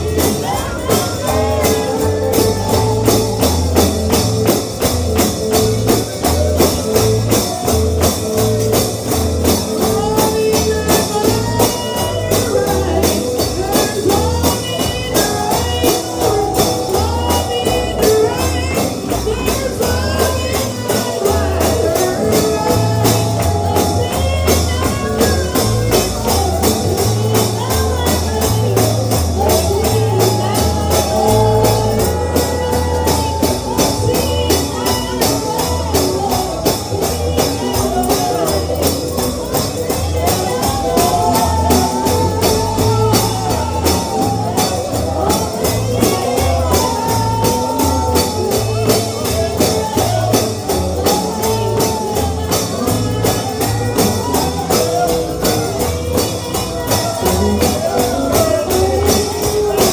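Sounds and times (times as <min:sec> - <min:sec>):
bluegrass band playing: 0:00.0 - 0:59.9
guitar: 0:00.0 - 0:59.9
tambourine shaken: 0:00.0 - 0:59.9
walking bass line: 0:00.0 - 0:59.9.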